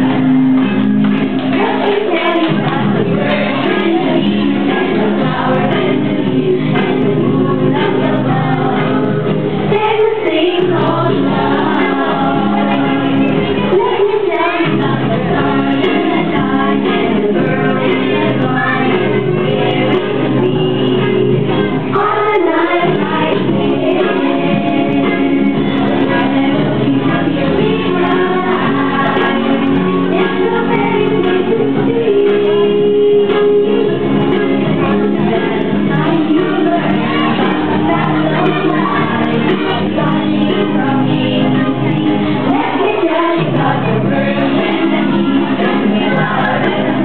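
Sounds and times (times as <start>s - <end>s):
group singing with accompaniment: 0.0s - 47.0s.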